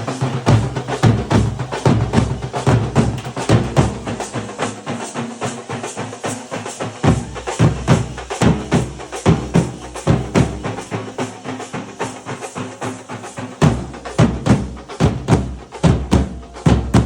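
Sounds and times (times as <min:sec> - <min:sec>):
drums beating steady rhythm: 0:00.0 - 0:17.0.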